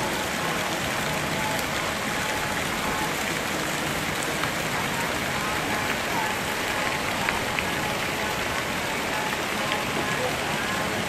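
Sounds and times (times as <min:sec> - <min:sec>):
rain falling on grass: 0:00.0 - 0:11.0.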